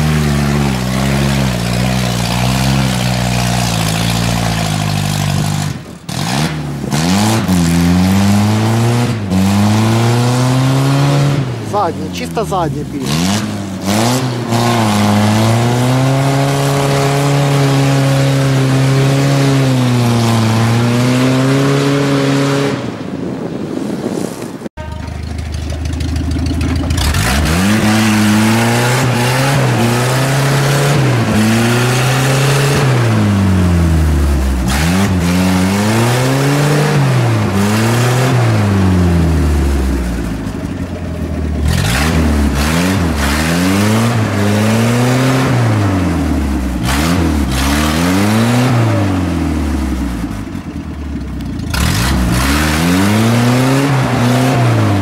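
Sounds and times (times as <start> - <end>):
engine pulling under load: 0.0 - 23.5, 24.9 - 55.0
off-road engine revving: 0.0 - 23.5, 24.8 - 55.0
wheels churning through mud: 0.0 - 55.0.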